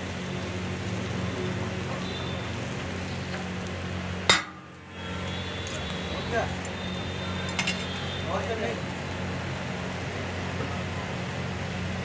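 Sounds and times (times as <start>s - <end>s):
griddle sizzling hiss: 0.0s - 12.0s.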